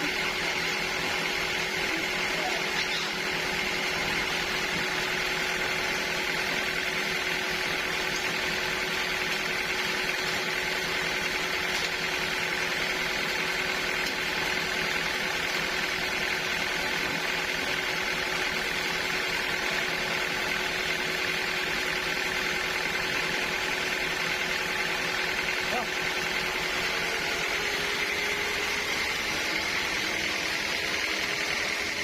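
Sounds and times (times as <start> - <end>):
high machine whine: 0.0 - 32.0
sawmill machinery humming: 0.0 - 32.0.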